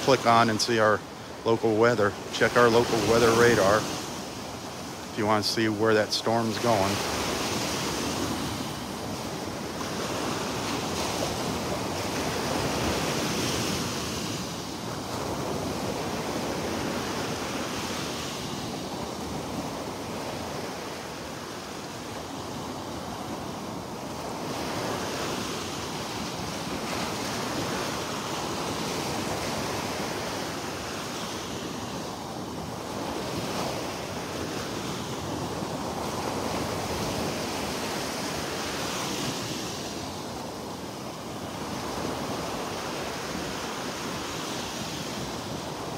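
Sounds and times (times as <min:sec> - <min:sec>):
surf washing onto beach: 0:00.0 - 0:45.9.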